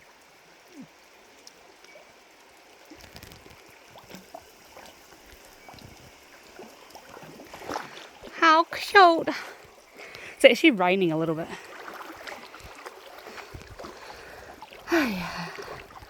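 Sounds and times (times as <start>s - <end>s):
creek trickling: 0.0s - 16.0s
wading splashes in water: 2.7s - 16.0s.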